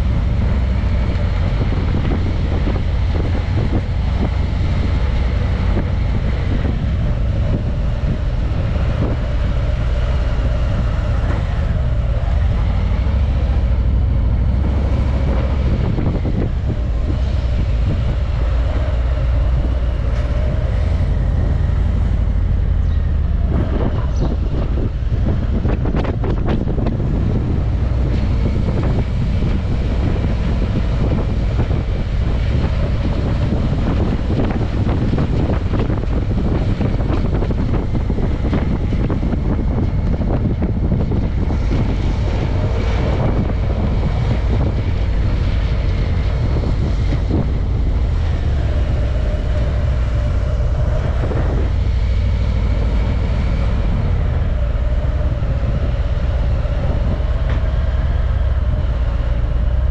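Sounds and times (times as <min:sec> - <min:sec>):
car engine and road noise: 0:00.0 - 0:59.9
wind buffeting microphone: 0:00.0 - 0:59.9.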